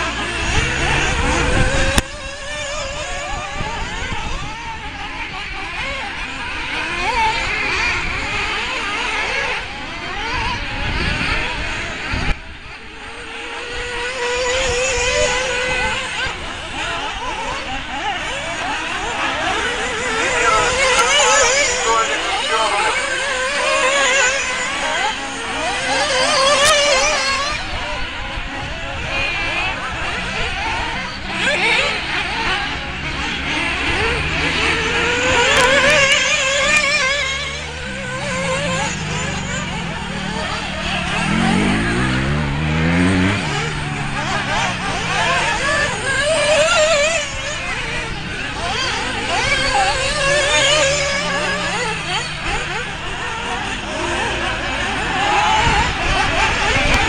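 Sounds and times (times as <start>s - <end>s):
toy car motors whining: 0.0s - 57.0s.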